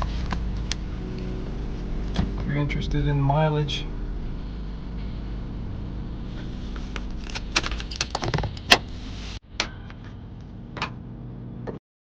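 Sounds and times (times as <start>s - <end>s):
car engine hum inside cabin: 0.0s - 11.8s.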